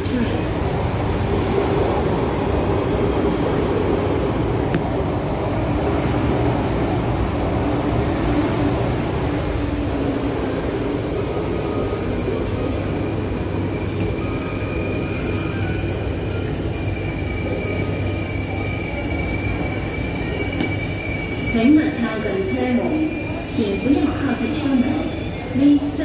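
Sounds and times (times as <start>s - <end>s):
train wheels and motors rumbling: 0.0s - 26.0s.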